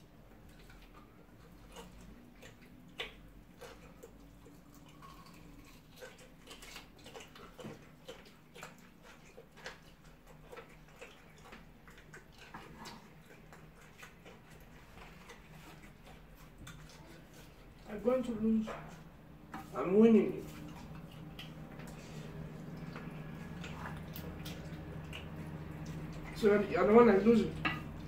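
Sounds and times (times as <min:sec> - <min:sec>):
chewing and wet lip smacks: 0:00.2 - 0:17.9, 0:20.4 - 0:26.7.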